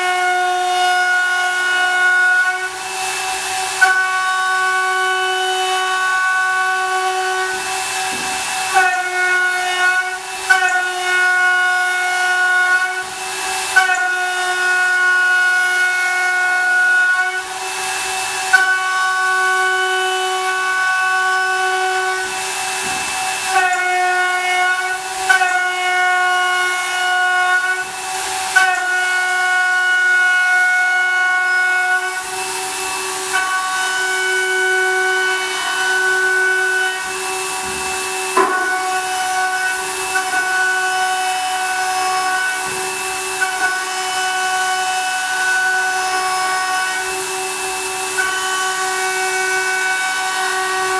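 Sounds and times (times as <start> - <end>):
milling machine high whine: 0.0 - 50.9
hiss of metal chips: 0.1 - 50.9.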